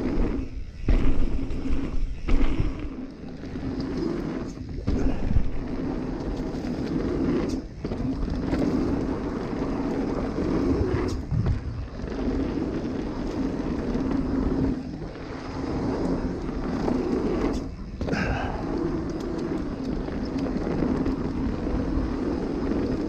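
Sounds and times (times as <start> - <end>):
bike tyres rumbling over dirt: 0.0 - 23.0
wind rush on microphone: 0.0 - 23.0.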